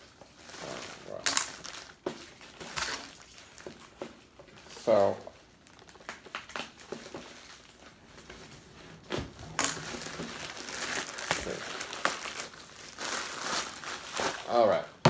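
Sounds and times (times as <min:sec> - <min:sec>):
packaging crinkling and rustling: 0:00.0 - 0:14.9.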